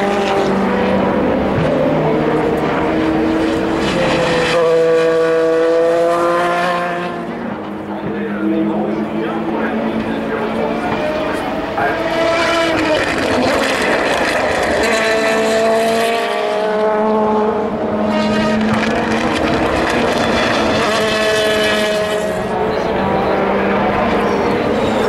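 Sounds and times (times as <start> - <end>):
race car engines at speed: 0.0 - 25.0.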